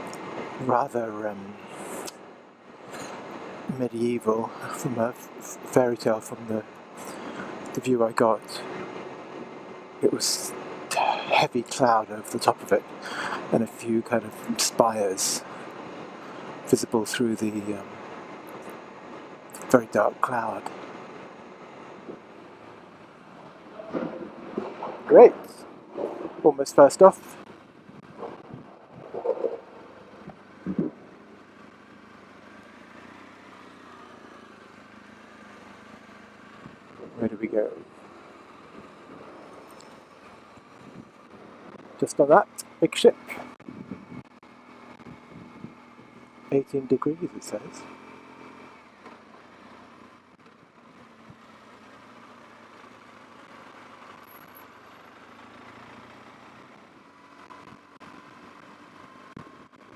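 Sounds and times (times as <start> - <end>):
road noise hum: 0.0 - 59.9
vehicle engine running: 0.0 - 59.9.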